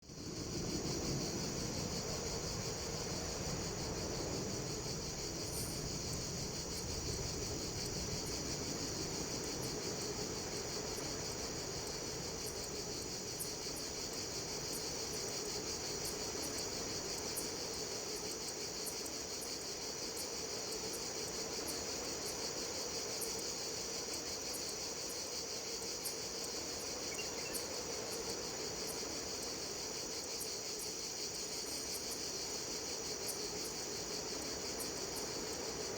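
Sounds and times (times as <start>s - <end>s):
insects trilling: 0.1s - 35.9s.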